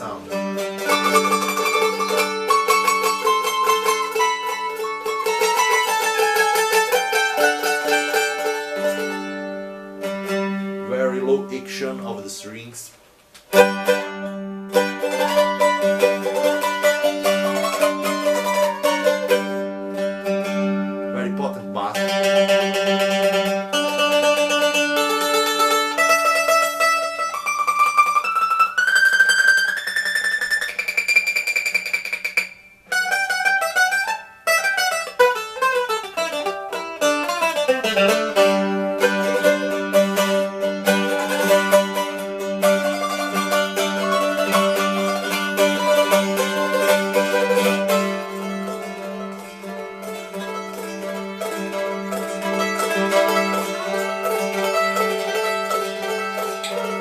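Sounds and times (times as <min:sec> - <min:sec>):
mandolin picking: 0:00.0 - 0:12.7, 0:13.3 - 0:57.0.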